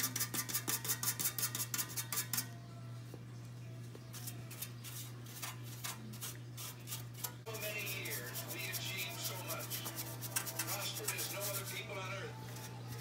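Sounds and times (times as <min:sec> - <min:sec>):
paint brush scratching metal: 0:00.0 - 0:02.6, 0:04.1 - 0:13.0.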